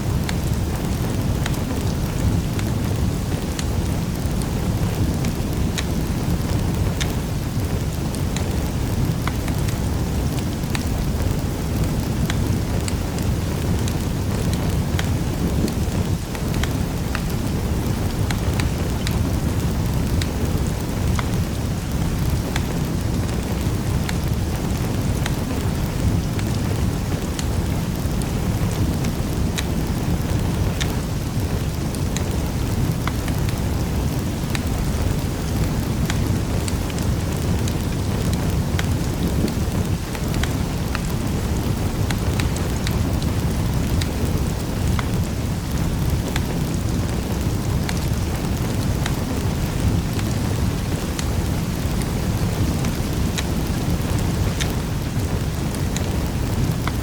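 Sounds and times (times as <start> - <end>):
low rumble of flames: 0.0 - 57.0
wood fire popping and snapping: 0.0 - 57.0.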